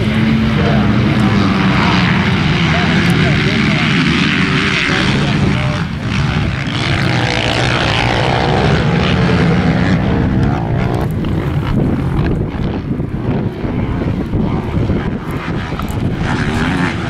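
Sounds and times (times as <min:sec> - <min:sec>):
dirt bike engines racing: 0:00.0 - 0:17.0.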